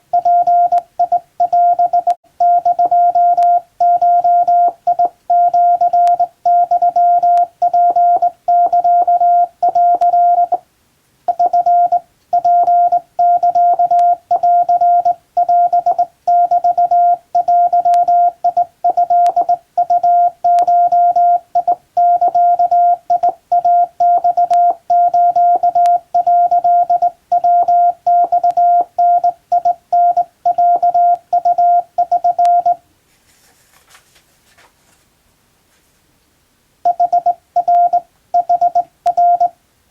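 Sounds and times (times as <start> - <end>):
morse code tone: 0.1 - 10.6, 11.3 - 32.8, 36.9 - 39.5.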